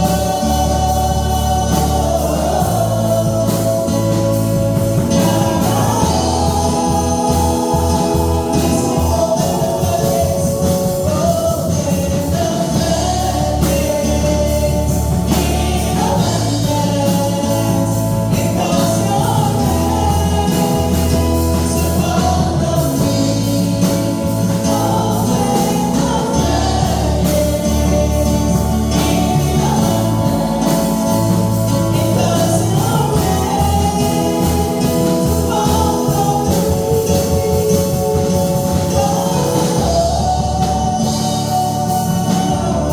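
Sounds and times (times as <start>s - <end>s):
gospel choir singing with instruments: 0.0s - 42.9s.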